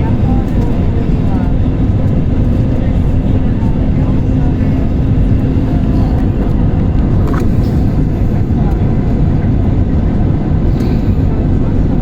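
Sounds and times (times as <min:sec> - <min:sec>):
airliner engines and airflow rumble: 0:00.0 - 0:12.0
constant low hum: 0:00.0 - 0:12.0.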